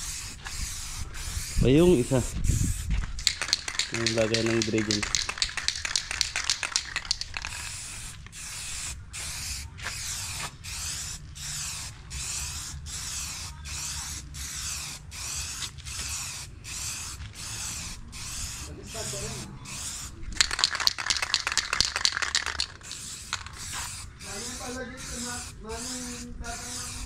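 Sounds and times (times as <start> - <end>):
aerosol spray paint bursts: 0.0 - 27.0.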